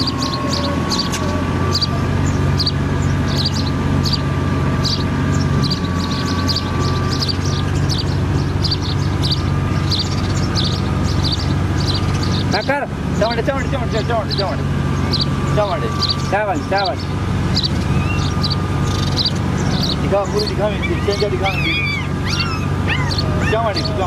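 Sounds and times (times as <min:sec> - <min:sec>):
mechanical hum with whine: 0:00.0 - 0:24.0.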